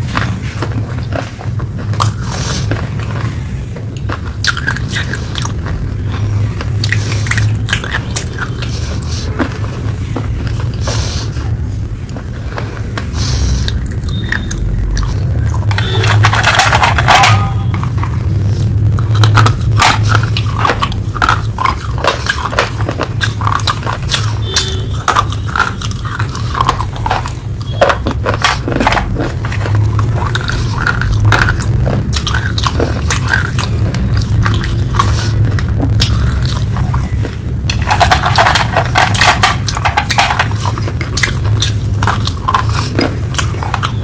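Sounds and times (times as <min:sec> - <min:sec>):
chewing crunches: 0:00.0 - 0:44.0
low hum: 0:00.0 - 0:44.0.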